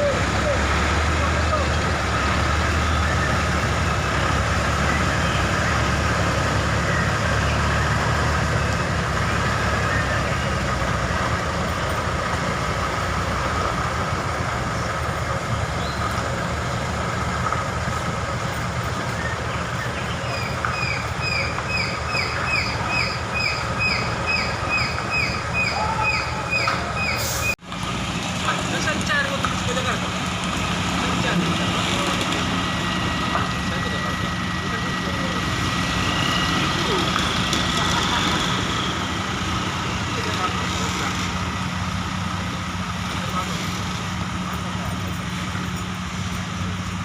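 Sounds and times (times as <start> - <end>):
diesel truck engines running: 0.0 - 47.0.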